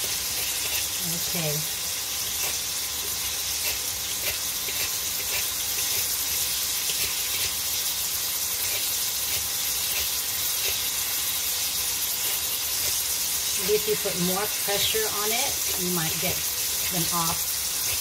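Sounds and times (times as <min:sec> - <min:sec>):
meat and onion sizzling in a wok: 0:00.0 - 0:18.0.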